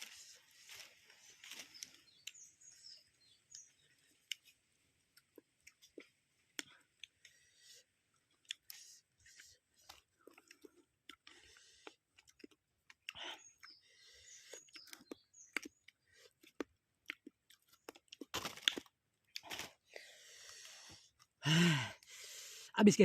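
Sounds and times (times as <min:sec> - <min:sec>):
person chewing food: 0:00.0 - 0:02.5, 0:03.4 - 0:21.4.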